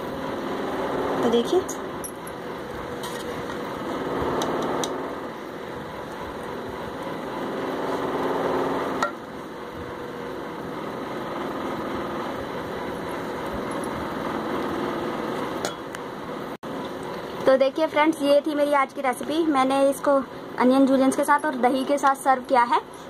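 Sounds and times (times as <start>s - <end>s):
mechanical motor hum: 0.0s - 23.0s.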